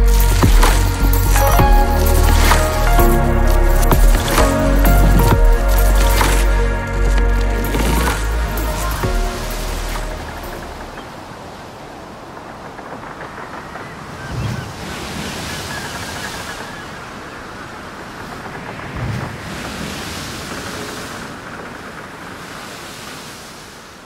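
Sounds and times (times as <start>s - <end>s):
waves breaking on shore: 0.0s - 24.0s.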